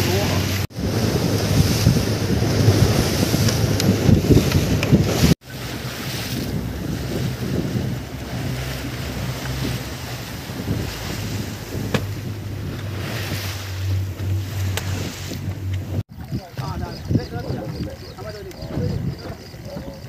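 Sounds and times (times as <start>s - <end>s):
boat engine running: 0.0s - 20.0s
water lapping against hull: 0.0s - 20.0s
water rushing along hull: 0.0s - 20.0s
wind buffeting microphone: 0.0s - 20.0s.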